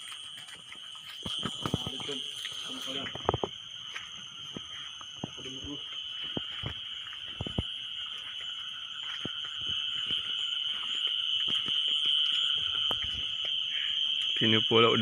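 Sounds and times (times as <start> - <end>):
chorus of calling animals: 0.0 - 15.0.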